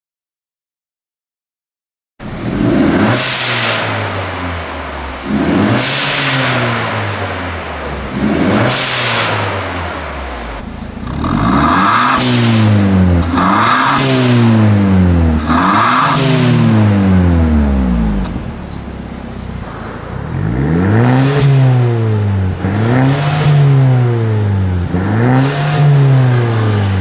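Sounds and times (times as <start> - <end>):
car engine revving: 2.2 - 27.0.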